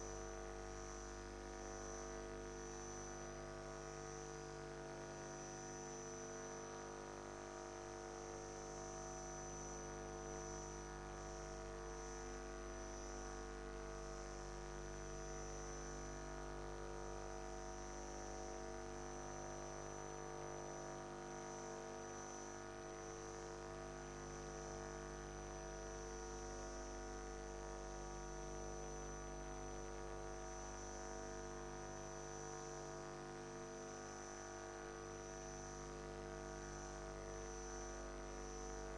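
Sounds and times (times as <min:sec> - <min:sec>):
electrical hum and buzz: 0:00.0 - 0:38.9.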